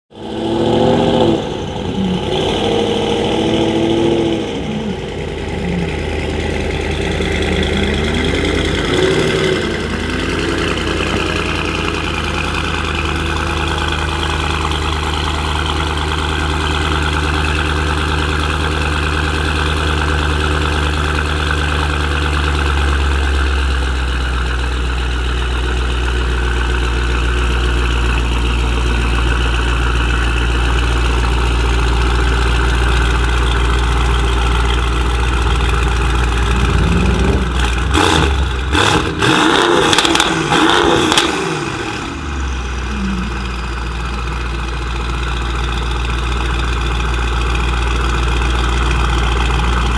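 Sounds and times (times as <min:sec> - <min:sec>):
car engine revving and idling: 0:00.1 - 0:49.9.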